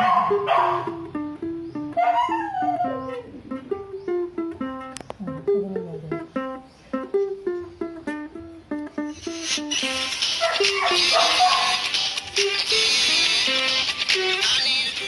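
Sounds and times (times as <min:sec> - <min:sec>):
ukulele picking melody: 0:00.0 - 0:15.0.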